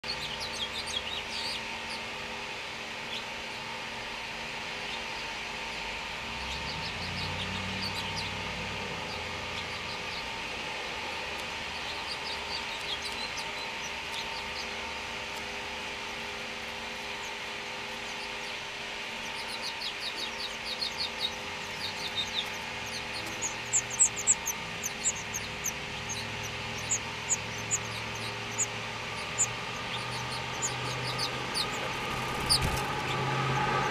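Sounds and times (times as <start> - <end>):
nestlings begging chirps: 0.0 - 33.9.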